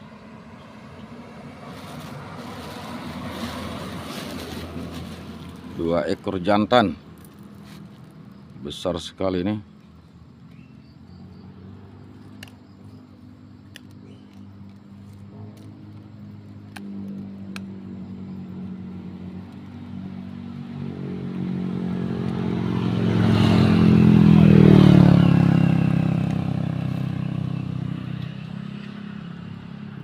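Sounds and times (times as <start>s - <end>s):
vehicle engine passing by: 0.0s - 9.4s, 10.3s - 30.0s.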